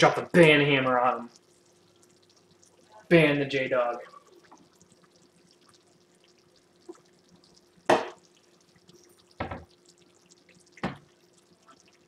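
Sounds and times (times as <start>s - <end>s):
faint steady hum: 0.0s - 12.0s
meat sauce bubbling in a pot: 0.0s - 12.0s.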